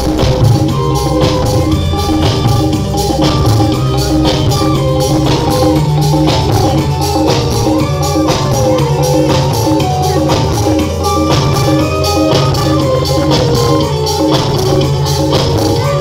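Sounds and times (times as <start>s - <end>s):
live dance music with drums and keyboards: 0.0s - 16.0s.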